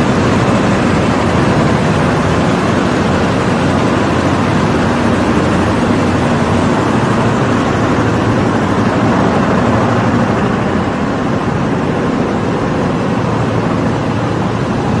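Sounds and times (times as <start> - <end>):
machinery running: 0.0 - 15.0.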